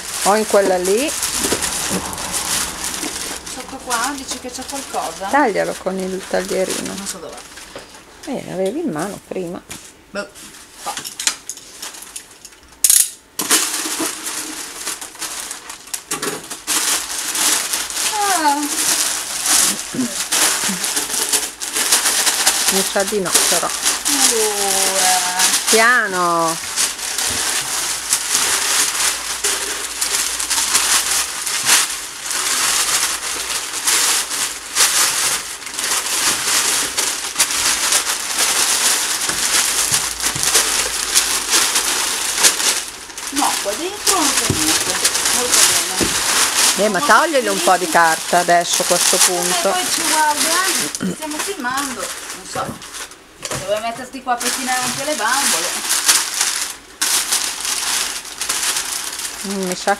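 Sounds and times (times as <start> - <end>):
paper rustling and crumpling: 0.0 - 8.9, 9.7 - 12.4, 13.4 - 59.9.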